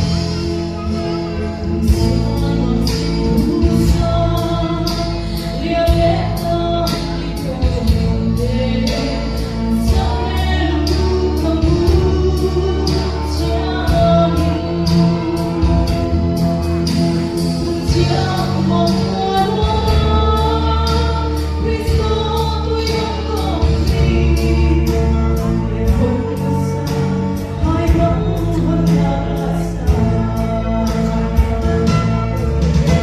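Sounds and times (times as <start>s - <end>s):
backing track with beat: 0.0s - 33.0s
held keyboard chords: 0.0s - 33.0s
woman singing into microphone: 1.0s - 33.0s.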